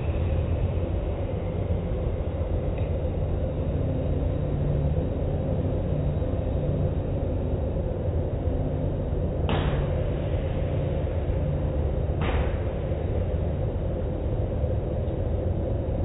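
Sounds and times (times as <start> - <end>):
car wash machinery rumble: 0.0 - 16.0.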